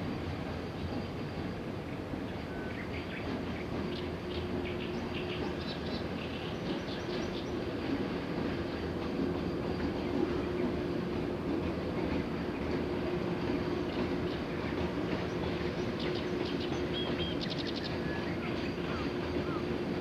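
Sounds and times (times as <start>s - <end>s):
freight train rumbling: 0.0s - 20.0s.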